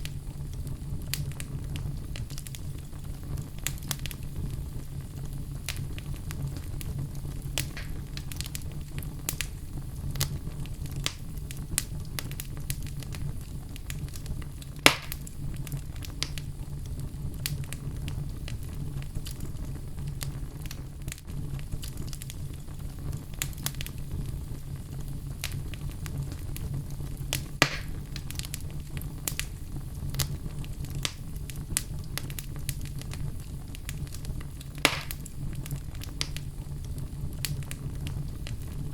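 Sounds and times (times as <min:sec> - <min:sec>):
loud fire pops: 0:00.0 - 0:38.9
low steady rumble: 0:00.0 - 0:38.9
wood fire crackling: 0:00.0 - 0:38.9.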